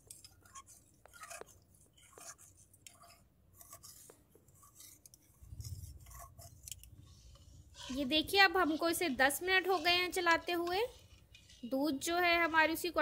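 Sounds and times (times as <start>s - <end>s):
metal spatula scraping a pan: 0.0s - 13.0s.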